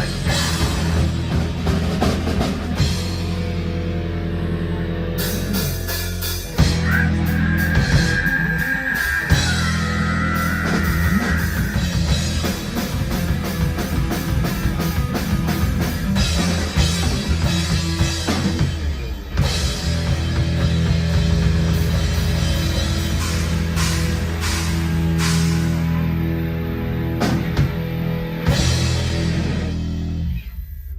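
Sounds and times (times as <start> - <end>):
heavy metal band playing: 0.0 - 30.7.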